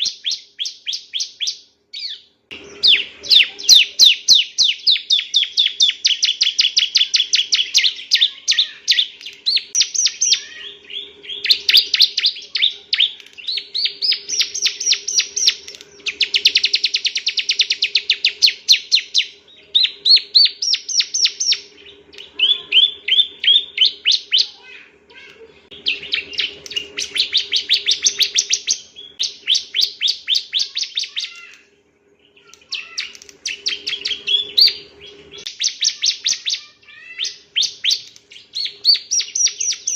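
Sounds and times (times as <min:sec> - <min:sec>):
bird singing fast trills: 0:00.0 - 0:39.9
faint steady hum: 0:00.0 - 0:39.9.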